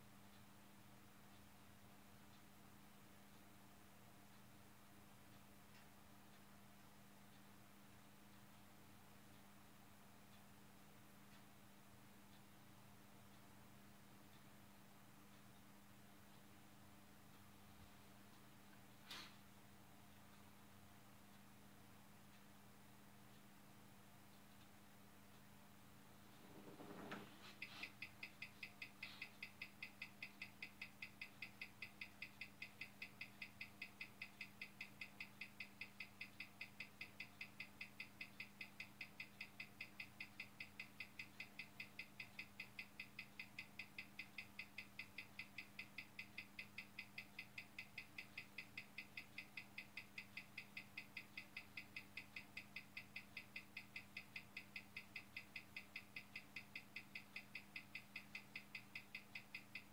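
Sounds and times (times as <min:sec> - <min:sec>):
watch ticking: 0:00.0 - 0:19.3, 0:27.0 - 0:59.9
faint steady hum: 0:00.0 - 0:59.9.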